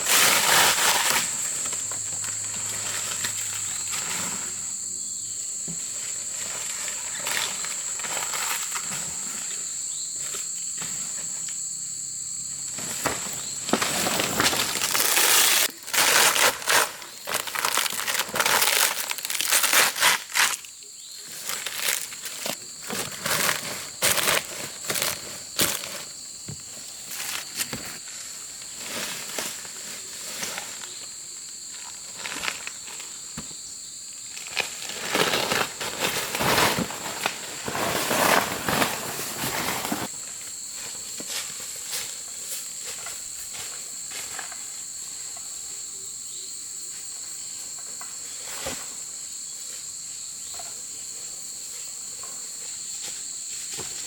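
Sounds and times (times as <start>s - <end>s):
rustling of leaves and twigs: 0.0s - 11.4s, 12.6s - 33.4s, 34.2s - 45.4s.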